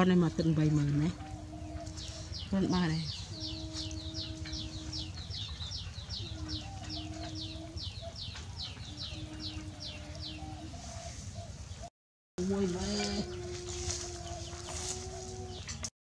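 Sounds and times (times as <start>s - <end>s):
long low tones: 0.0s - 10.9s, 12.4s - 15.9s
bird chirping high downward: 0.0s - 11.9s, 13.0s - 15.9s.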